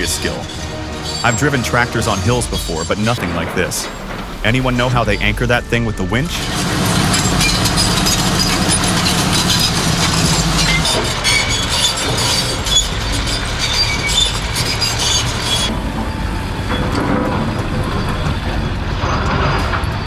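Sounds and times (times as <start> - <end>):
bulldozer diesel engine running: 0.0 - 20.0
steel tracks clanking: 0.0 - 20.0.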